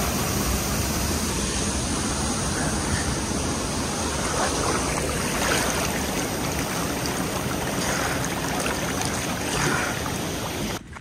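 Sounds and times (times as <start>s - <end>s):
creek water rushing and gurgling: 0.0s - 10.8s.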